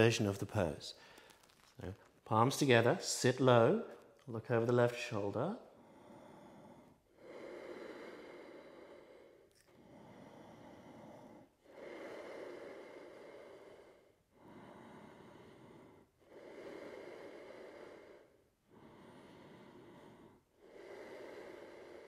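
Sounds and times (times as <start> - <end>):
slow human breathing: 0.9 - 22.0.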